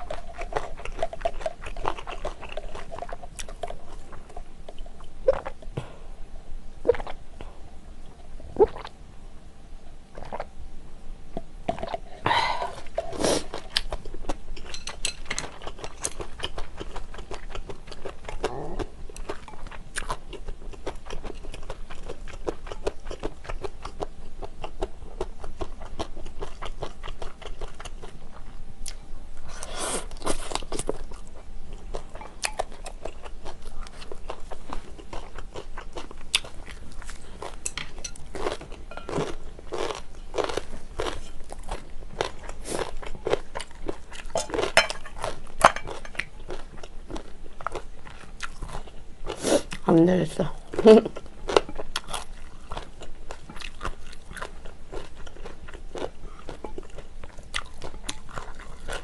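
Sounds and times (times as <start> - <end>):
chewing noodles: 0.0 - 5.8, 6.9 - 7.5, 8.6 - 8.9, 11.7 - 49.8, 50.7 - 59.0.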